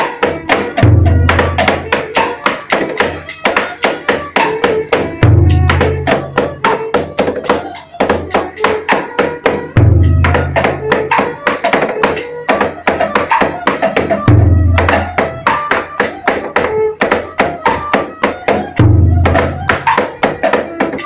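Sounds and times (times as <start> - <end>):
sharp percussion strokes: 0.0 - 21.0.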